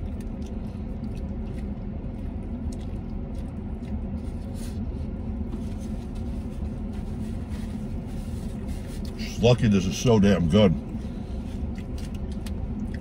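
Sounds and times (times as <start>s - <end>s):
chewing and mouth sounds: 0.0s - 9.3s, 10.8s - 13.0s
vehicle idling rumble: 0.0s - 13.0s.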